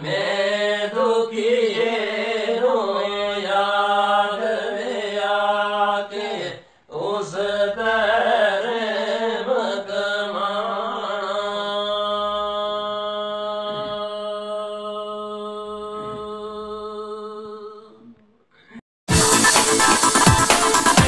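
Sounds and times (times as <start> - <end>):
two men chanting devotional verse: 0.0 - 17.0.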